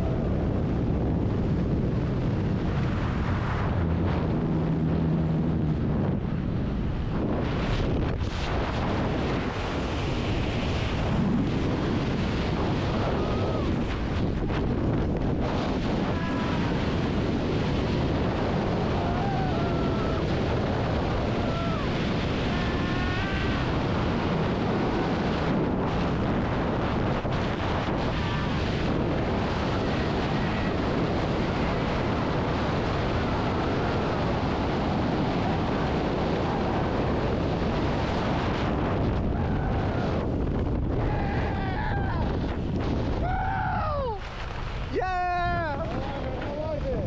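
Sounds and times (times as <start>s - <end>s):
wind roaring over microphone: 0.0s - 47.0s.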